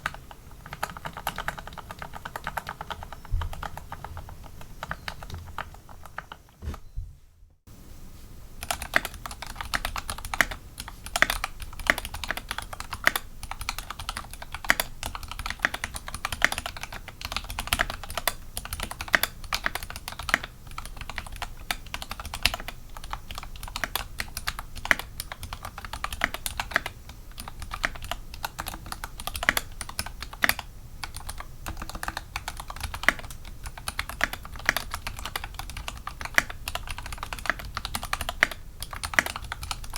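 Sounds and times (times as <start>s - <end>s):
mechanical keyboard typing: 0.0s - 6.6s, 8.6s - 39.9s.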